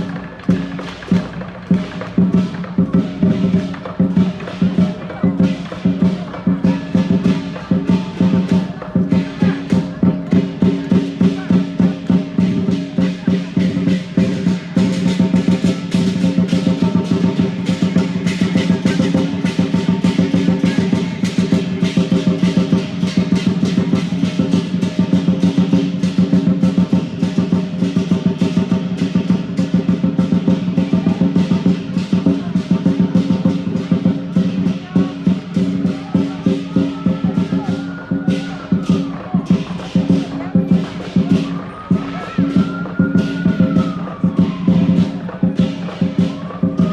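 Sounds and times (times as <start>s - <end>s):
big drum beaten fast: 0.0s - 46.9s
cymbals clashing: 0.0s - 46.9s.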